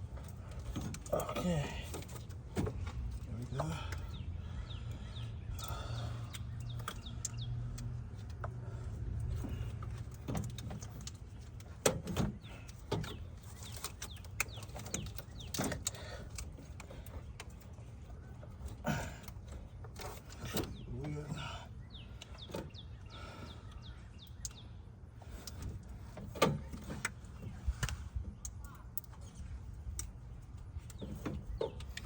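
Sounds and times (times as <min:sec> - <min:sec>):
birds chirping: 0:00.0 - 0:32.0
low steady hum: 0:00.0 - 0:32.0.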